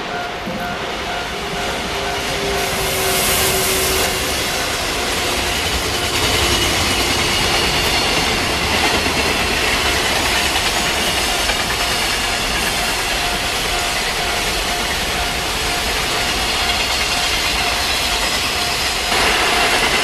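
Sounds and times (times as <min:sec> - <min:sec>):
train wheels rushing on rails: 0:00.0 - 0:20.0.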